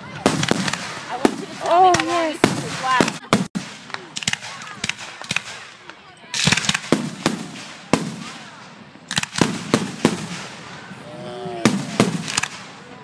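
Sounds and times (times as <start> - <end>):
firework shells bursting: 0.1 - 11.0, 11.7 - 13.0.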